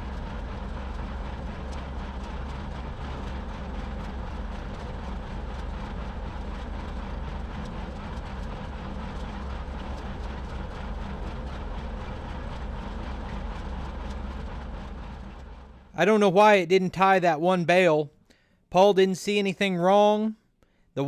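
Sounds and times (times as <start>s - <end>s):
tractor diesel engine running: 0.0s - 17.2s.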